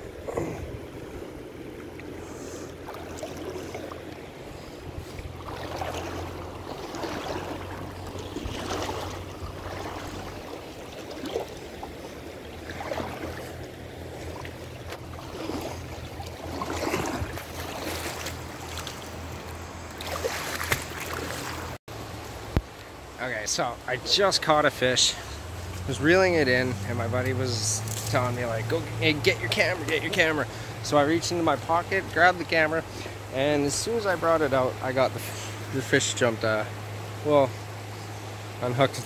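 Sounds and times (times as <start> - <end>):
creek running over stones: 0.0 - 39.0.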